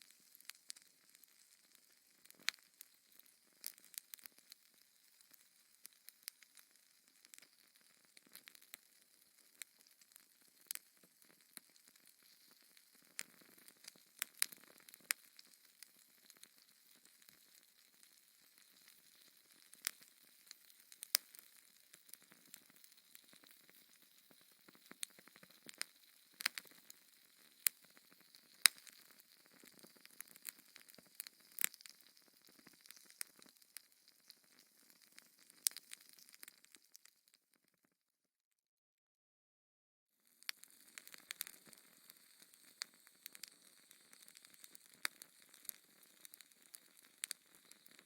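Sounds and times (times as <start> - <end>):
wood fire crackling: 0.0 - 37.3, 40.4 - 48.0.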